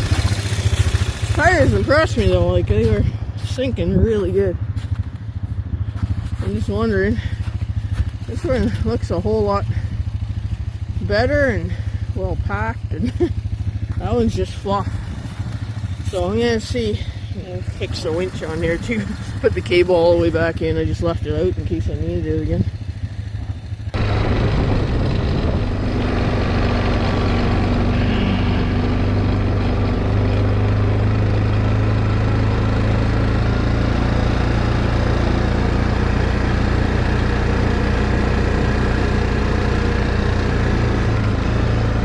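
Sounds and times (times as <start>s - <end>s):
atv engine running: 0.0s - 42.0s.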